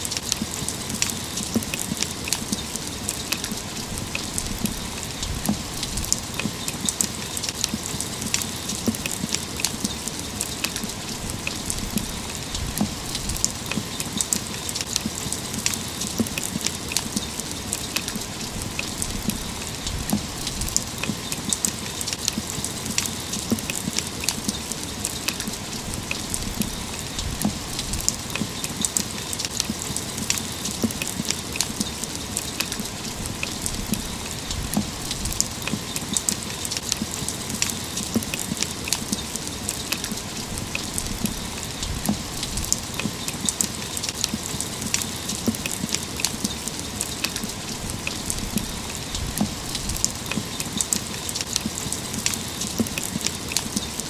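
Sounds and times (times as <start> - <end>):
raindrops hitting metal railing: 0.0 - 54.0
rainfall hiss: 0.0 - 54.0.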